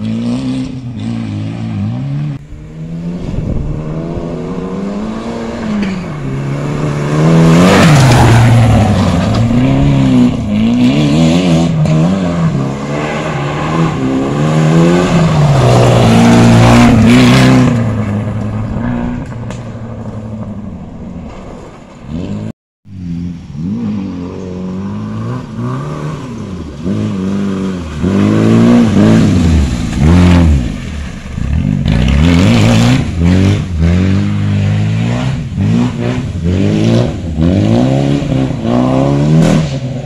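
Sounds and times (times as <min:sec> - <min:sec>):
rally car engine revving: 0:00.0 - 0:20.6, 0:22.1 - 0:40.0.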